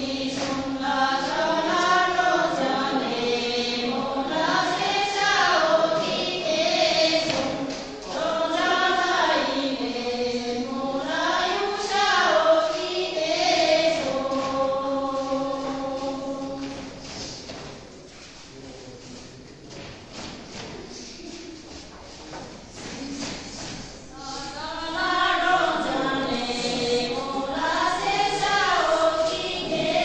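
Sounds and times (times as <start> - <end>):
women singing together: 0.0 - 17.7, 22.8 - 30.0.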